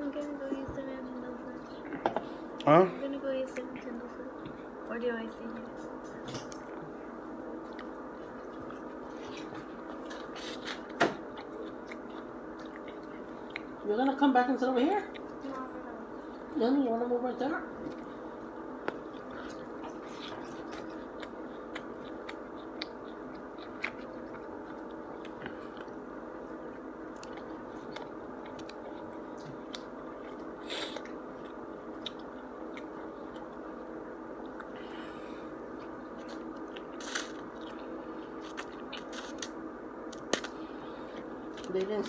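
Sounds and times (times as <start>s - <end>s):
steady background hum: 0.0s - 42.0s
man chewing food: 1.4s - 14.2s, 14.9s - 16.9s, 17.6s - 41.7s.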